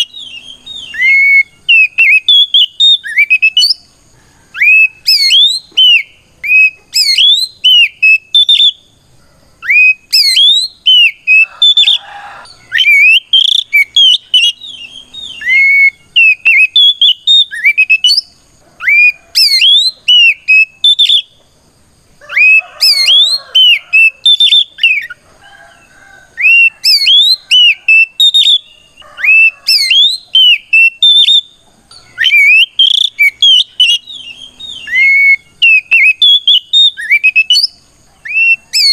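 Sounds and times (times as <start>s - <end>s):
bird singing whistled notes: 0.0s - 9.0s, 9.6s - 21.5s, 22.2s - 25.2s, 26.3s - 38.9s.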